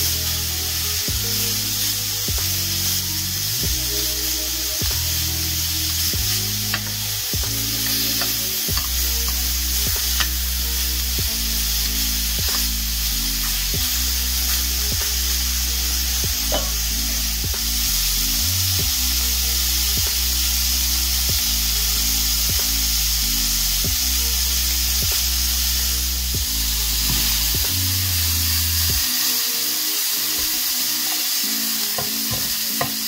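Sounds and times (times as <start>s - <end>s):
background music with steady beat: 0.0s - 33.0s
meat sizzling in a frying pan: 0.0s - 33.0s.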